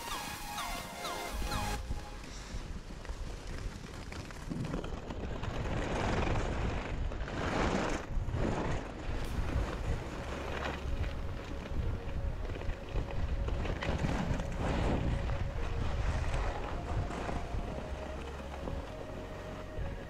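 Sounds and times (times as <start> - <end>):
skis scraping over snow: 1.4 - 20.0
wind buffeting microphone: 1.8 - 20.0.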